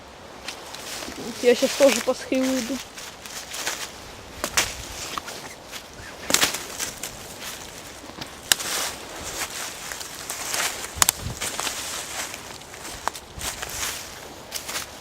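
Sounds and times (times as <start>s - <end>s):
footsteps crunching dry leaves: 0.3s - 15.0s.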